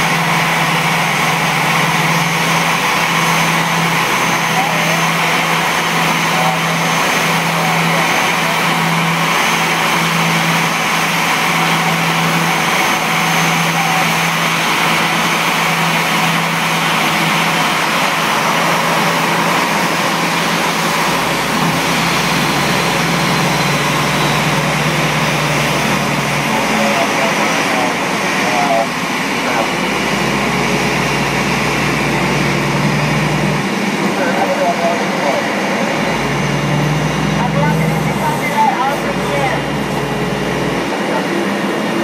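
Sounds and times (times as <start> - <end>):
tug engine noise: 0.0 - 42.0.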